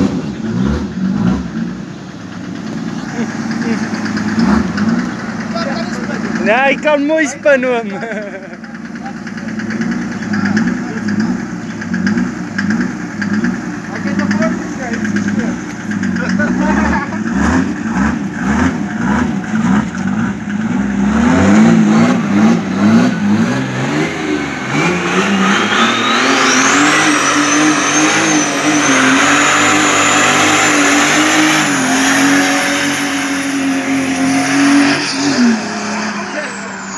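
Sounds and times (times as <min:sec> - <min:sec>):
diesel engine revving: 0:00.0 - 0:36.9.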